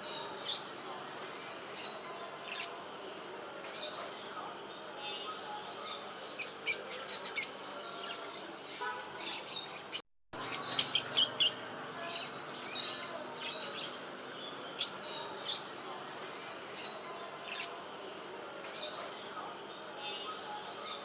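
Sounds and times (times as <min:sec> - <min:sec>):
cage birds chirping: 0:00.0 - 0:21.0.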